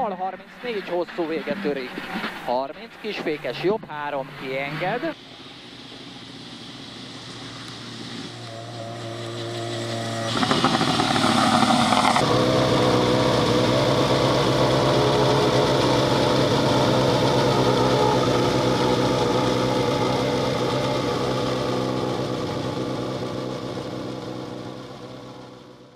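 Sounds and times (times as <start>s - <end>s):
rally car engine: 0.0s - 25.9s.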